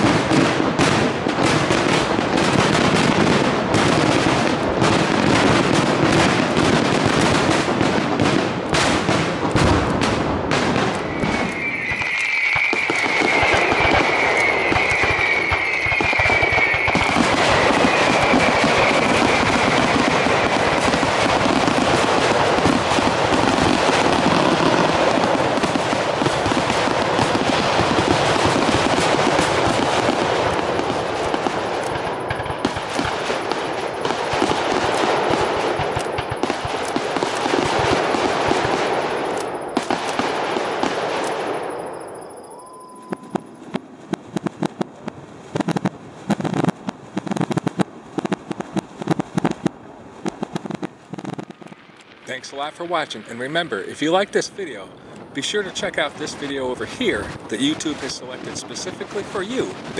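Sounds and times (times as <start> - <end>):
sharp firework bangs: 0.0 - 42.2, 43.0 - 59.9
fireworks bursting and crackling: 0.0 - 59.9.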